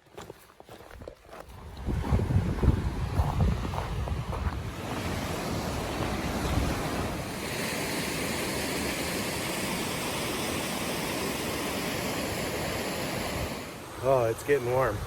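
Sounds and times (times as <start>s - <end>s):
wind rushing over microphone: 1.5s - 15.0s.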